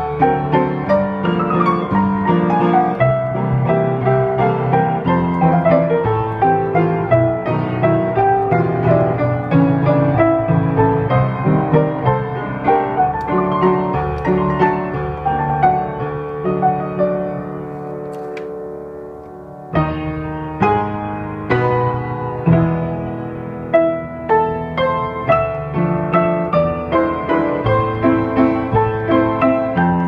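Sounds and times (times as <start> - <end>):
solo piano melody: 0.0 - 30.0.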